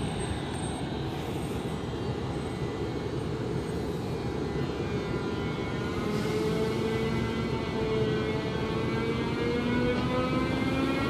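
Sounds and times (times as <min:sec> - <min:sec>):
faint steady tones: 0:00.0 - 0:11.0
train rolling past rumbling: 0:00.0 - 0:11.0.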